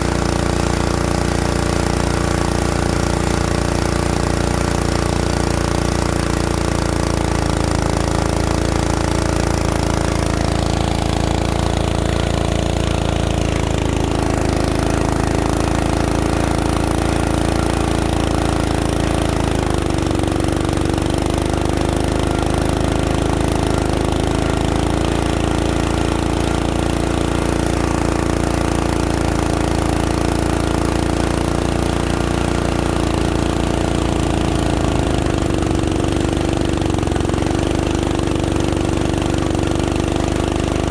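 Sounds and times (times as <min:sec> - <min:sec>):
drilling rig diesel engine running: 0:00.0 - 0:40.9.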